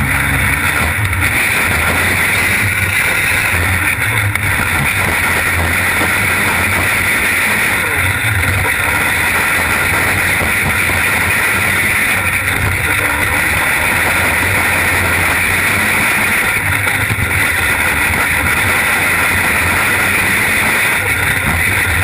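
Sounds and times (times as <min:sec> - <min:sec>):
race car engine: 0:00.0 - 0:22.0
road and wind noise: 0:00.0 - 0:22.0.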